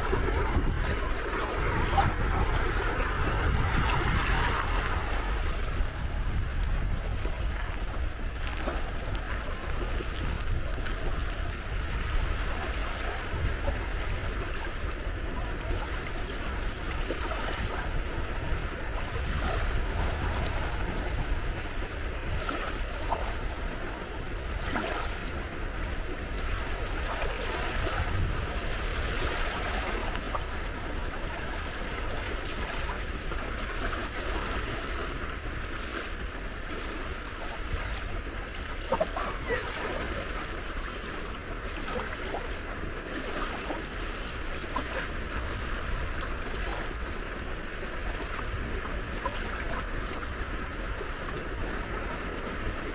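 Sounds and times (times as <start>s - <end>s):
sea waves washing on shore: 0.0s - 52.9s.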